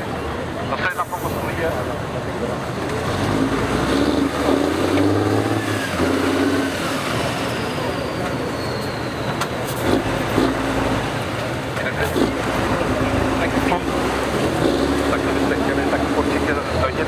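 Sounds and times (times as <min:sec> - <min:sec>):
voices: 0:00.0 - 0:17.0
vehicle engine revving: 0:01.6 - 0:17.0.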